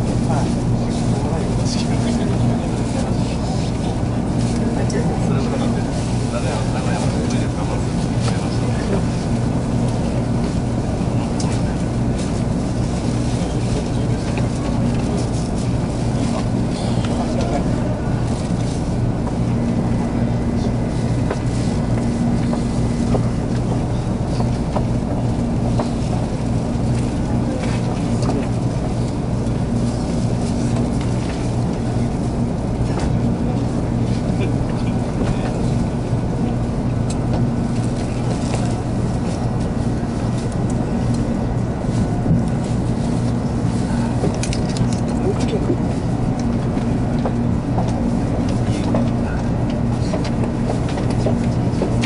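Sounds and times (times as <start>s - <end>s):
crowd chatter: 0.0s - 52.0s.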